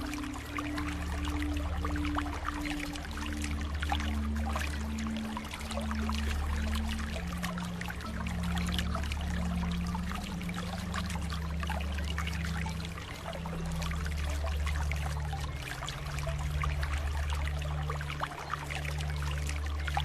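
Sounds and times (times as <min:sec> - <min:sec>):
soft low background music: 0:00.0 - 0:20.0
water trickling and splashing: 0:00.0 - 0:20.0.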